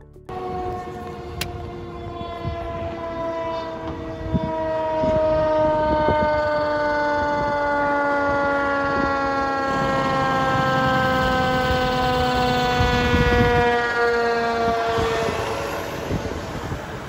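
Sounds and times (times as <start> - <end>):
mechanical siren winding down: 0.3 - 17.0.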